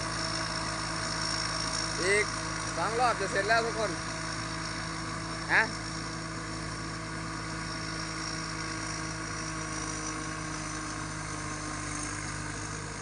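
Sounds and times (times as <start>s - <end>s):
combine harvester engine and machinery: 0.0s - 13.0s.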